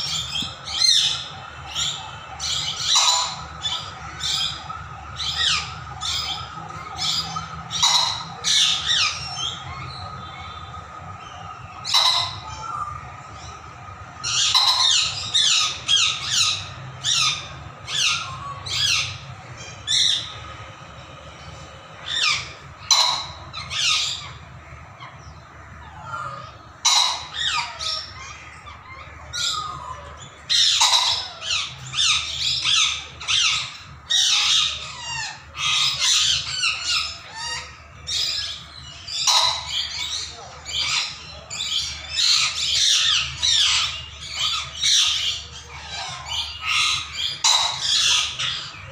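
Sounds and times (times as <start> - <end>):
birds squawking and chirping: 0.0 - 48.9.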